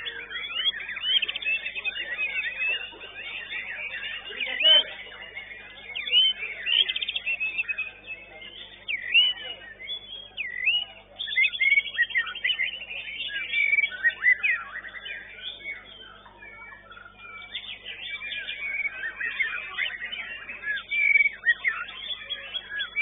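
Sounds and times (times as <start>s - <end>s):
songbird whistling and trilling: 0.0s - 23.0s.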